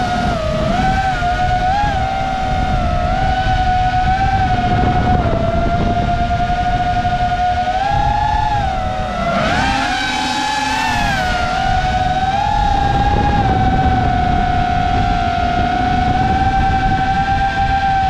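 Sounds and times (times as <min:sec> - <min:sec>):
drone motors whining: 0:00.0 - 0:18.0
wind rumble on microphone: 0:00.0 - 0:18.0.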